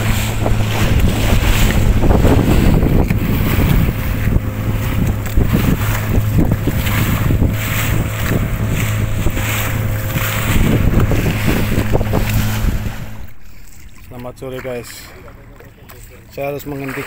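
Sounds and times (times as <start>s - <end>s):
wind buffeting microphone: 0.0s - 15.3s
boat engine humming: 0.0s - 17.0s
water splashing off hull: 0.0s - 17.0s.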